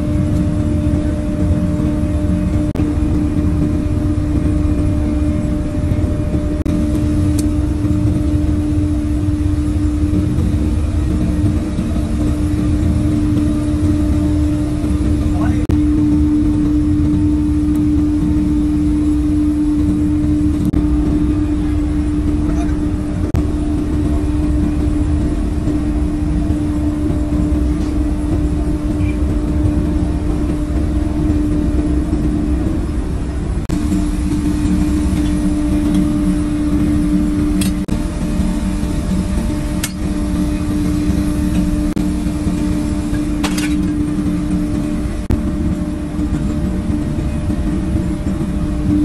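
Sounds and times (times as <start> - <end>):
machine humming: 0.0 - 49.0.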